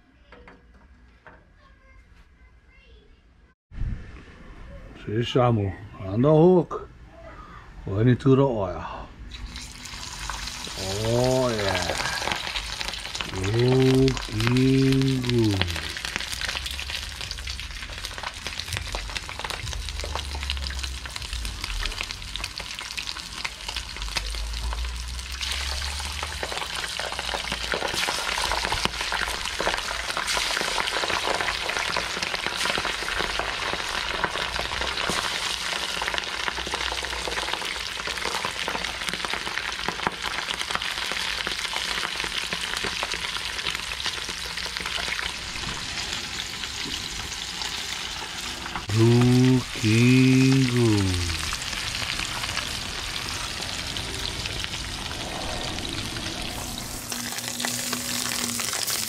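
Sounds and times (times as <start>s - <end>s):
fish sizzling in oil: 9.3s - 59.0s.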